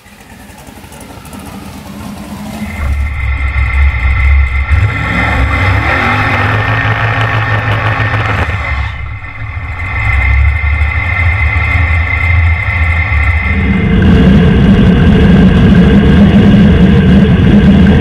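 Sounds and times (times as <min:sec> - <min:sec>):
engine revving: 0:00.0 - 0:18.0
race engine idling roughly: 0:00.0 - 0:18.0.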